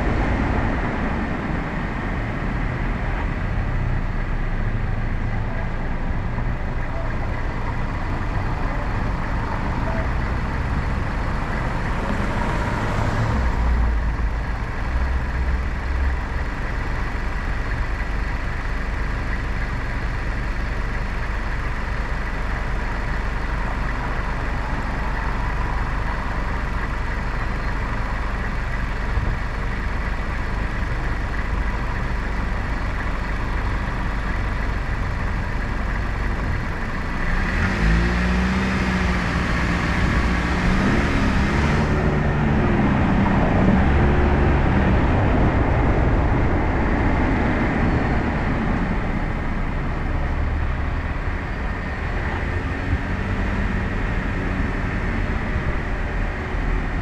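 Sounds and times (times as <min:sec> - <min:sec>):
car idling: 0:00.0 - 0:57.0
vehicles passing: 0:00.0 - 0:57.0.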